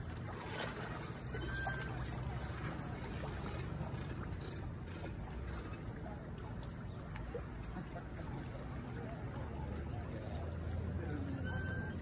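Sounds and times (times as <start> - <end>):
water lapping and sloshing: 0.0 - 12.0.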